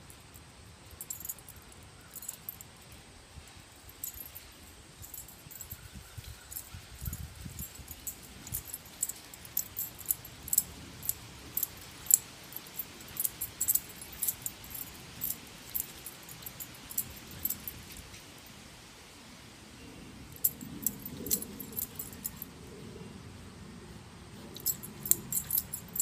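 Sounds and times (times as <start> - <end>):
metal chain collar jingling: 0.0 - 3.0, 3.7 - 18.2, 20.4 - 22.5, 24.4 - 26.0.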